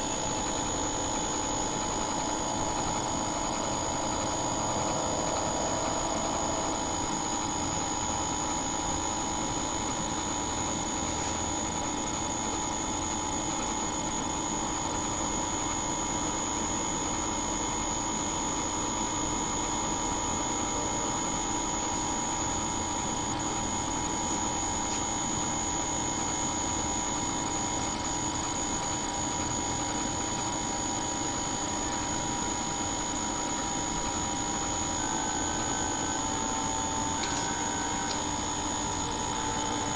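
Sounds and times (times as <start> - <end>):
high whine: 0.0 - 15.4, 19.8 - 39.9
machine hum: 0.0 - 39.9.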